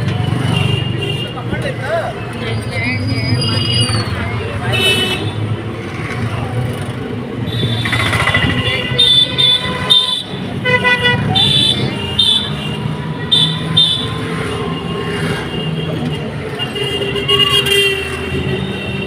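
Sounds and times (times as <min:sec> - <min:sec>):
road traffic engines: 0:00.0 - 0:19.0.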